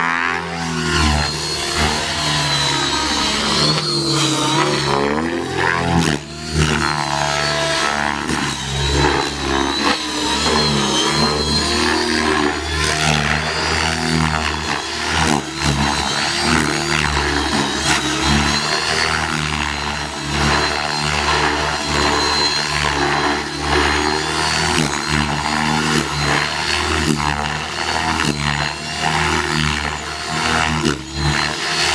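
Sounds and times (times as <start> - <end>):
high wavering whine: 0.0 - 31.9
model helicopter motor and rotors: 0.0 - 31.9.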